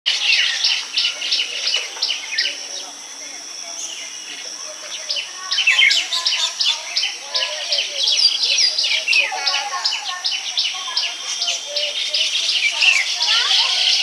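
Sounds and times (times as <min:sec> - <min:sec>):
birds chirping: 0:00.1 - 0:14.0.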